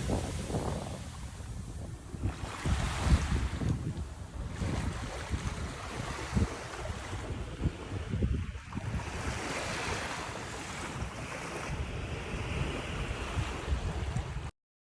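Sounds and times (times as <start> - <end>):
ocean waves washing onto beach: 0.0 - 14.5
wind buffeting microphone: 0.0 - 14.5.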